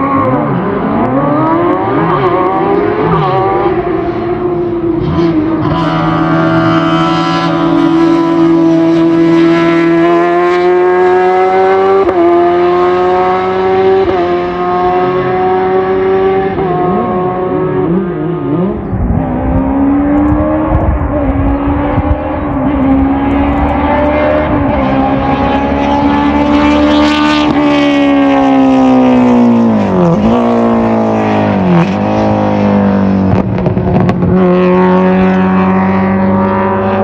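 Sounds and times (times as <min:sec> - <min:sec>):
race car engine revving hard: 0:00.0 - 0:37.0.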